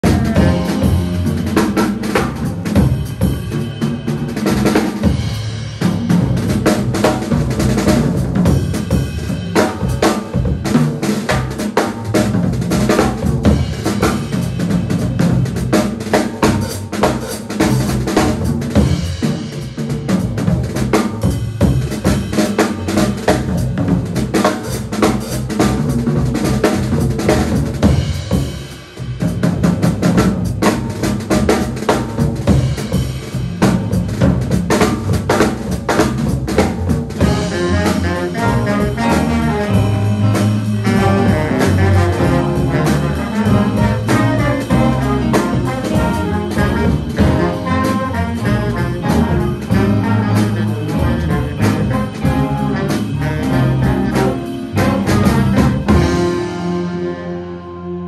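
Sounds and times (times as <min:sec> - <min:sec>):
drum kit snare and cymbals: 0:00.0 - 0:58.0
jazz band playing: 0:00.0 - 0:58.0.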